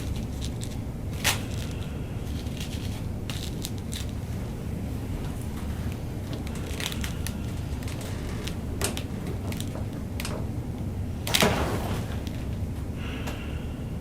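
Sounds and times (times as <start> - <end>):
faint rustles and clicks: 0.0 - 12.9
steady low hum: 0.0 - 14.0.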